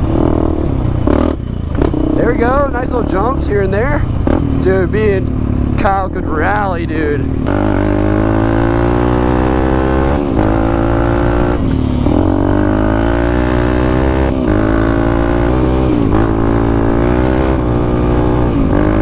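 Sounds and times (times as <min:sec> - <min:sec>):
quad bike engine revving: 0:00.0 - 0:19.0.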